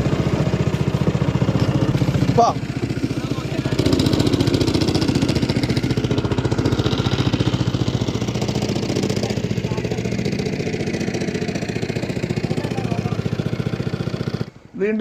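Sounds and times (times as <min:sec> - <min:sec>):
motor boat engine knocking: 0:00.0 - 0:14.6.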